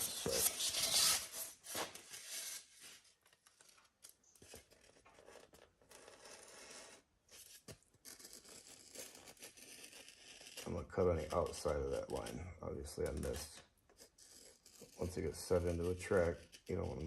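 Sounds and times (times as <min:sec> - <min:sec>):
scraping foam board: 0:00.0 - 0:17.0.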